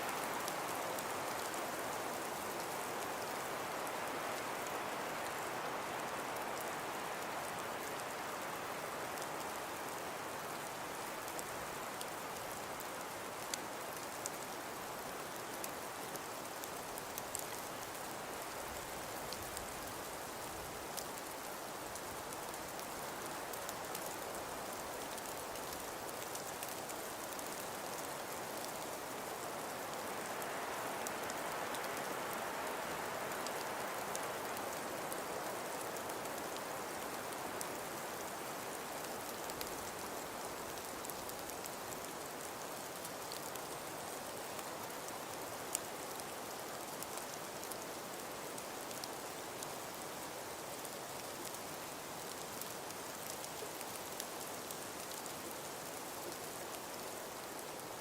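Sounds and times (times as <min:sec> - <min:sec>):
hiss of wind-driven snow: 0:00.0 - 0:58.0.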